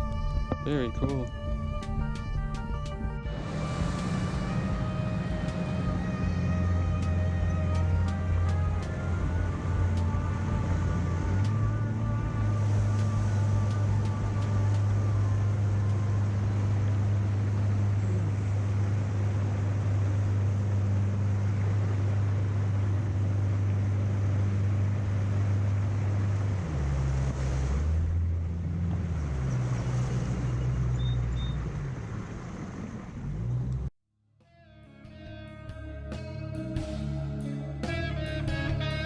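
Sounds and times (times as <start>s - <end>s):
water noise: 0.0s - 33.5s
boat motor running: 0.0s - 33.9s
wind: 0.0s - 33.9s.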